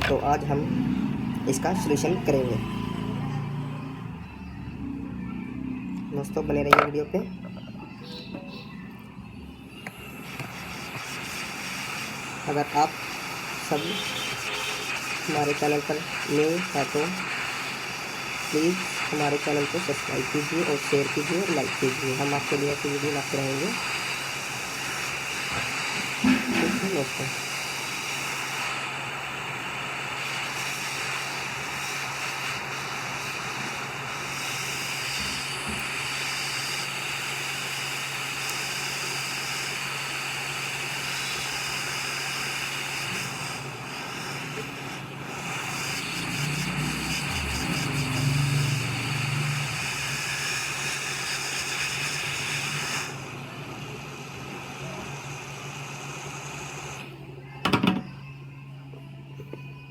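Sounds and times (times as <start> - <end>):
hot air blower hissing: 0.0 - 4.3, 9.8 - 58.1.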